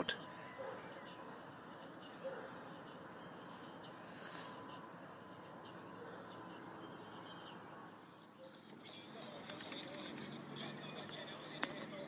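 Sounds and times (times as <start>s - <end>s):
bird chirps: 0.0s - 11.5s.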